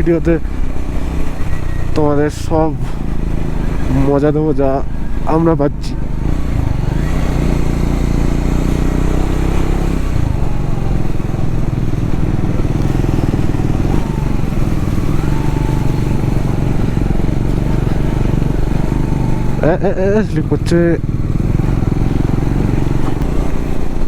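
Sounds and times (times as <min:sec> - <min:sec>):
single-cylinder engine running: 0:00.0 - 0:24.0.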